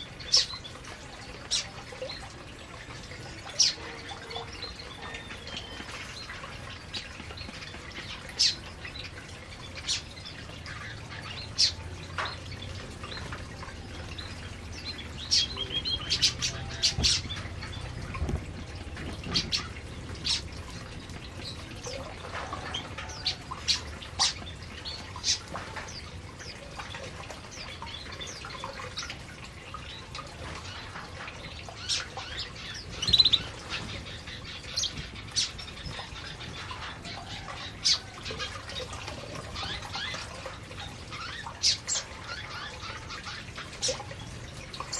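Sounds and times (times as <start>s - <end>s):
canaries chirping: 0.0s - 27.0s, 29.8s - 44.9s.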